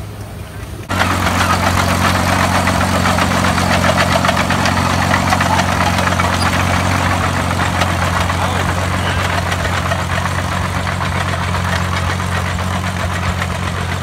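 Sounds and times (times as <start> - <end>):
crawler loader engine running: 0.0 - 14.0
fast clatter: 0.9 - 14.0.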